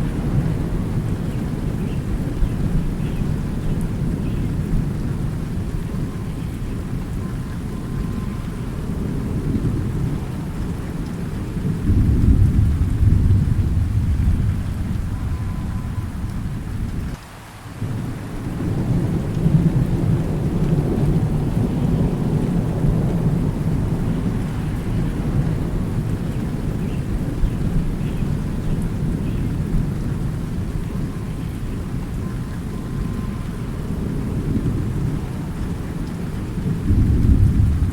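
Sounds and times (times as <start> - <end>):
rolling thunder: 0.0 - 17.2, 17.8 - 37.9
steady rain: 0.0 - 37.9.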